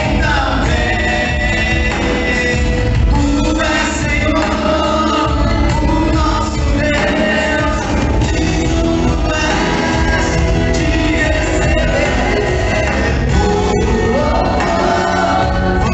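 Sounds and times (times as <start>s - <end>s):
heavy bass: 0.0s - 15.9s
loud music with singing: 0.0s - 15.9s.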